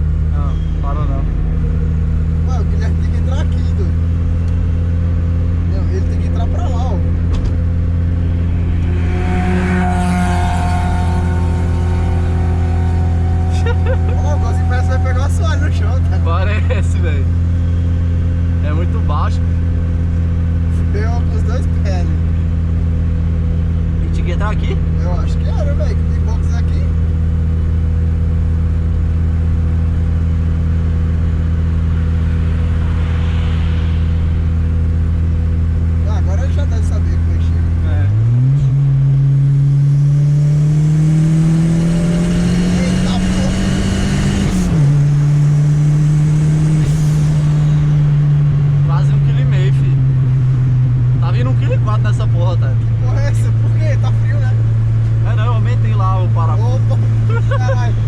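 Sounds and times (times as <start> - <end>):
car engine droning: 0.0 - 58.0
turbocharger whine: 0.0 - 58.0.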